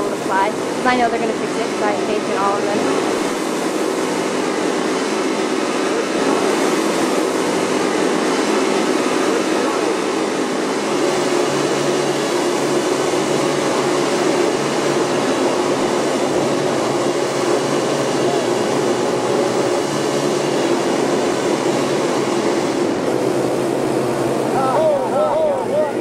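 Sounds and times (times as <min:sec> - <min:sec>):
model aircraft engines buzzing: 0:00.0 - 0:26.0.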